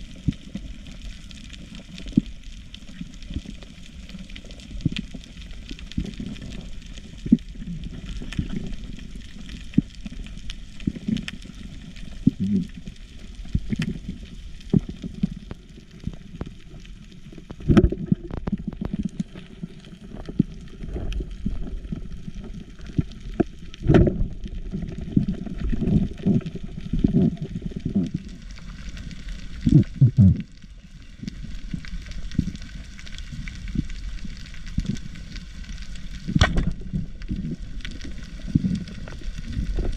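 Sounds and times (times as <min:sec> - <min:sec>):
water churning underwater: 0:00.0 - 0:39.9.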